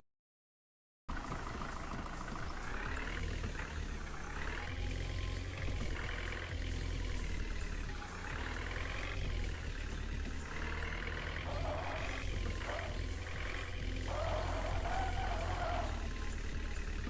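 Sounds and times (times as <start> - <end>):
tractor engine running: 1.1 - 17.0.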